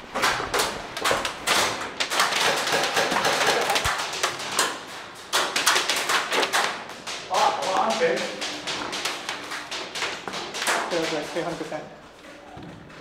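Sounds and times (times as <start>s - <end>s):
sharp taps and thuds: 0.1s - 11.7s.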